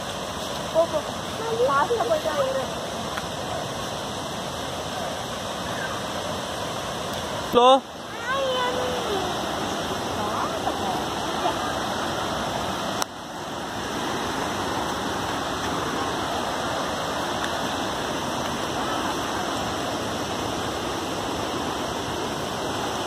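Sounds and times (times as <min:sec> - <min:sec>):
waterfall roar: 0:00.0 - 0:23.0.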